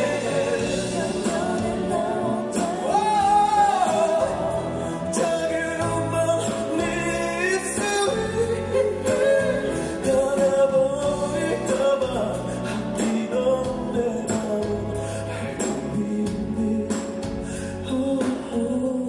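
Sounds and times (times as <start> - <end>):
band playing: 0.0 - 19.0
man singing into microphone: 0.0 - 19.0.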